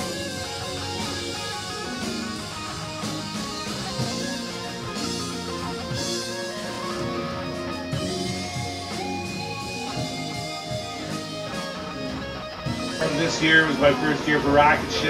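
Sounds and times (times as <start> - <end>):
guitar-led music: 0.0 - 15.0.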